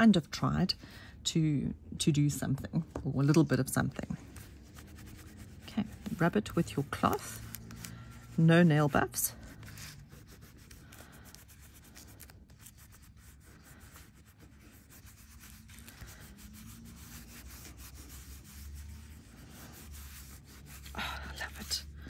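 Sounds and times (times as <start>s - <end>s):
cloth rubbing on metal tape: 3.2s - 22.0s.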